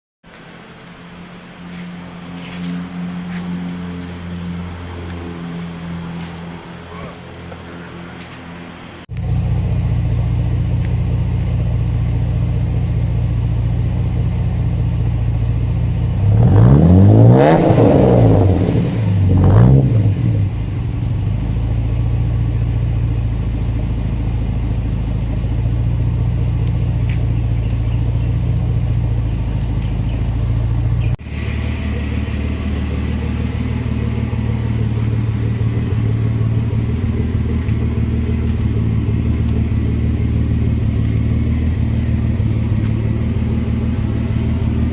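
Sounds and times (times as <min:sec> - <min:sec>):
car exhaust idling and revving: 0:00.2 - 0:44.9.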